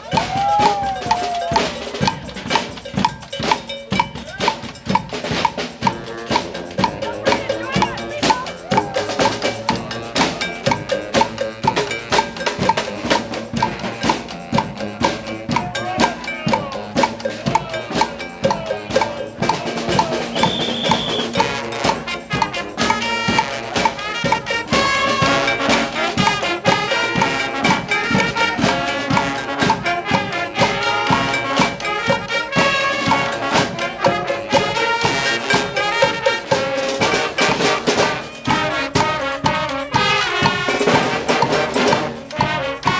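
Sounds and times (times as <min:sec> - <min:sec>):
brass band playing funk: 0:00.0 - 0:42.9
steady drum beat: 0:00.0 - 0:42.9.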